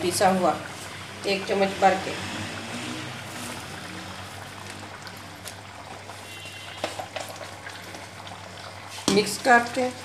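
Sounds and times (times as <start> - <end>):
broth boiling and bubbling: 0.0 - 10.0.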